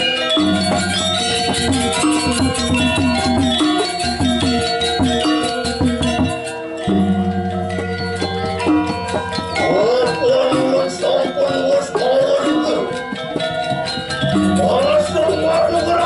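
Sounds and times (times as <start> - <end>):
drum strokes: 0.0 - 16.0
ringing metal percussion: 0.0 - 16.0.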